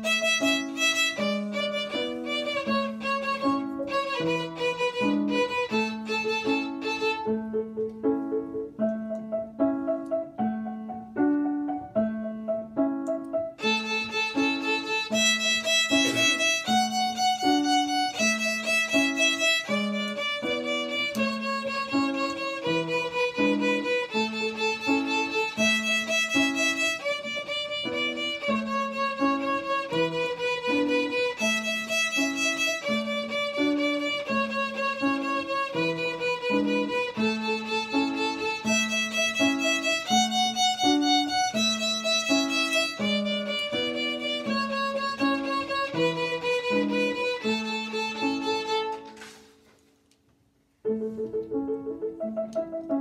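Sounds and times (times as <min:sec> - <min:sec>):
violin melody: 0:00.0 - 0:49.6
piano accompaniment: 0:00.0 - 0:53.0.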